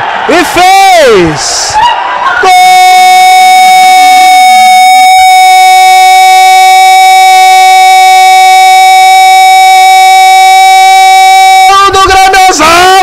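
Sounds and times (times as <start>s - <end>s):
man shouting a long goal call: 0.3s - 1.4s, 2.4s - 13.0s.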